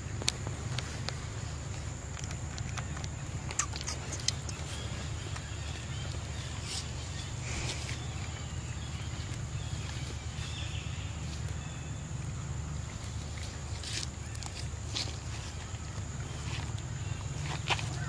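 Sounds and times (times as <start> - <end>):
faint clicks and rustles: 0.0 - 18.0
steady low hum: 0.0 - 18.0.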